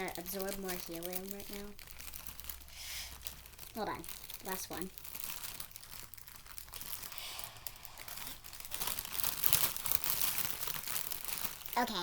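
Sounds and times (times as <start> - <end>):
balloon crinkling when squeezed: 0.0 - 12.0.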